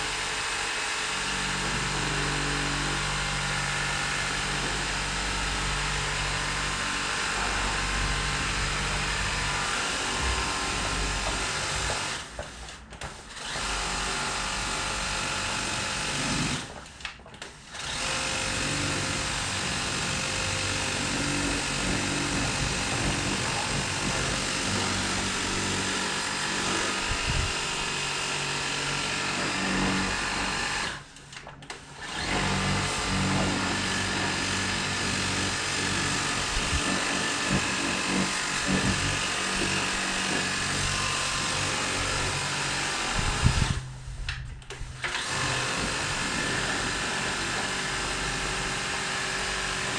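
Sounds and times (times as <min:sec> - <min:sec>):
pressure washer pump humming: 0:00.0 - 0:49.9.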